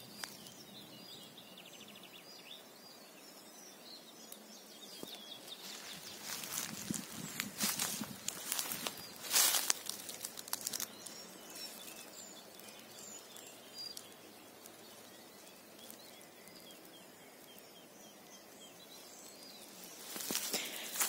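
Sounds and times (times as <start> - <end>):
faint songbirds chirping: 0.0 - 21.0.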